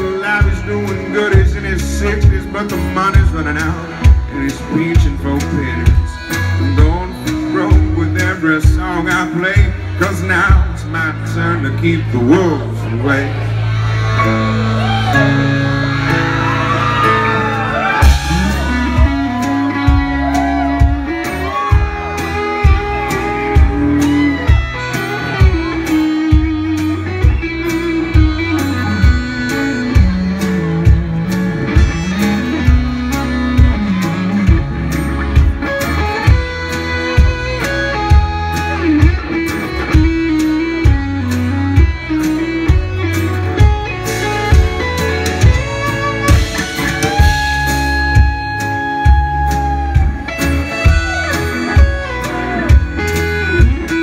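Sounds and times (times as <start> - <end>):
steady drum beat: 0.0 - 10.9, 14.8 - 54.0
acoustic guitar: 0.0 - 54.0
bass guitar: 0.0 - 54.0
electric guitar lead: 0.0 - 54.0.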